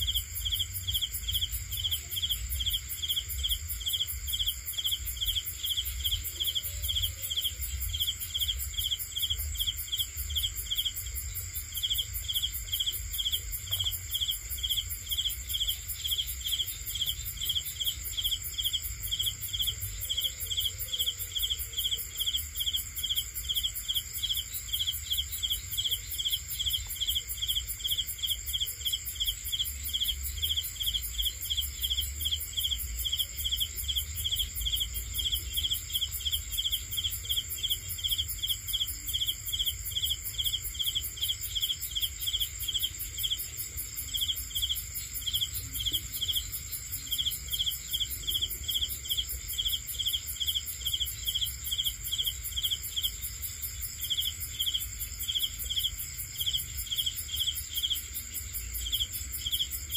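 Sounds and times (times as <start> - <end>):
cricket chirping: 0.0 - 59.9
high-pitched insect trill: 0.0 - 59.9.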